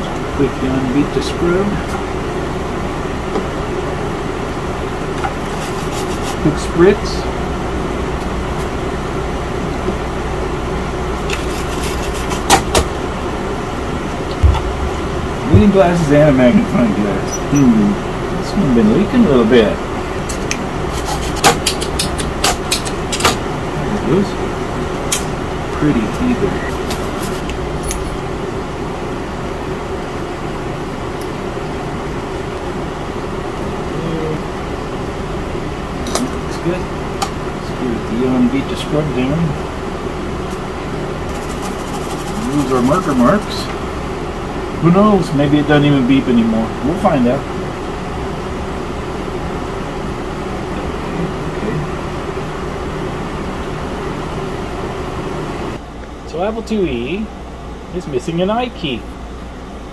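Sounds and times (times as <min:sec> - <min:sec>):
fan running: 0:00.0 - 0:59.9
low background hum: 0:00.0 - 0:59.9.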